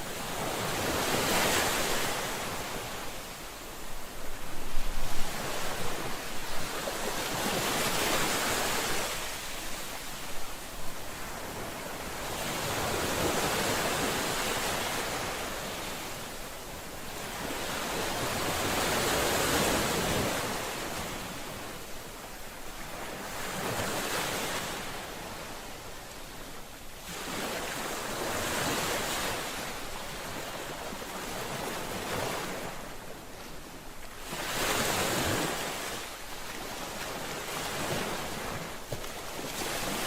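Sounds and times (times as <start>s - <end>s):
ocean waves breaking on shore: 0.0s - 40.0s.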